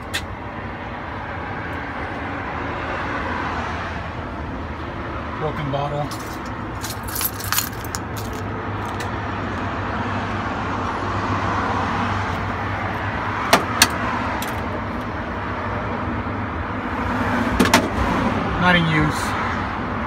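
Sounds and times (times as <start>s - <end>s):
car passing: 0.6s - 20.0s.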